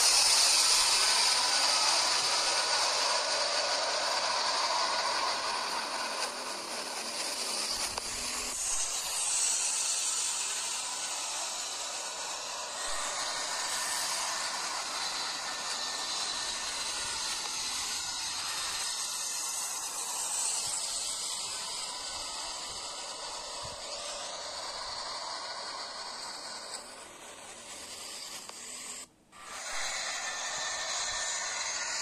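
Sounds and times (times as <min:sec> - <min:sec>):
jet engines rushing hiss: 0:00.0 - 0:32.0.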